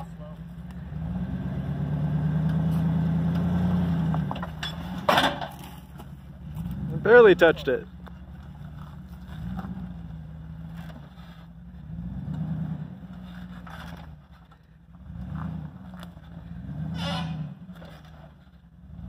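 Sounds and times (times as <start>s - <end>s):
off-road engine revving: 0.0s - 19.0s.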